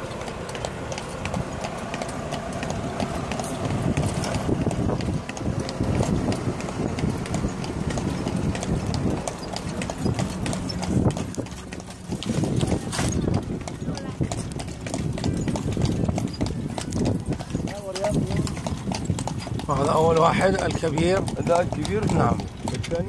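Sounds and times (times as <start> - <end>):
horse hooves clip-clopping on pavement: 0.0 - 23.0.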